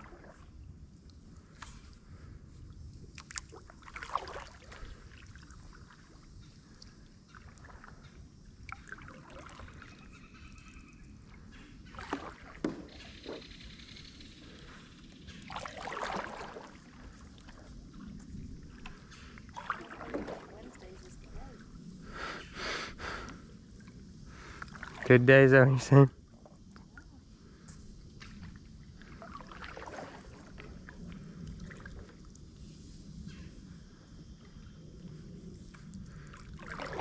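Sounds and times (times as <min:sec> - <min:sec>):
paddle swishing through water: 0:00.0 - 0:25.2, 0:25.8 - 0:37.0.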